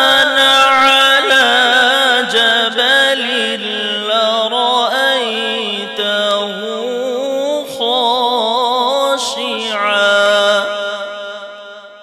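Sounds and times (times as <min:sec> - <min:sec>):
man reciting melodically into microphone: 0:00.0 - 0:12.0.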